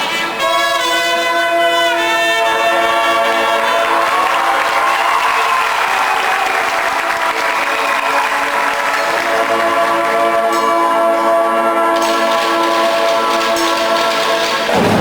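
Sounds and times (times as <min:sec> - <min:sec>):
marching band held notes: 0:00.0 - 0:15.0
audience applauding and cheering: 0:02.4 - 0:15.0.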